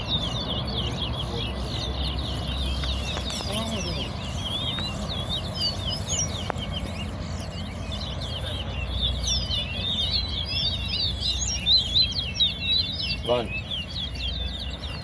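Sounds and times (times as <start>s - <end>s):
finches twittering chirps: 0.0s - 15.0s.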